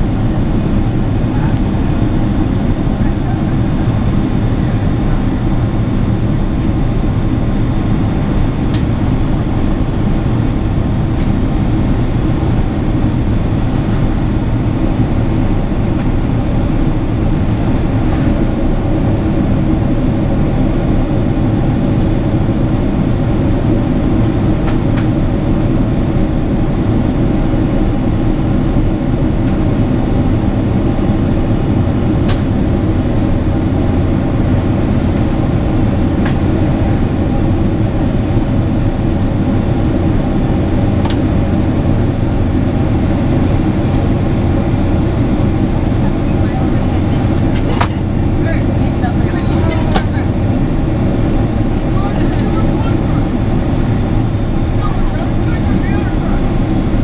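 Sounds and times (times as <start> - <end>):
airplane cabin engine drone: 0.0 - 57.0
rushing airflow: 0.0 - 57.0.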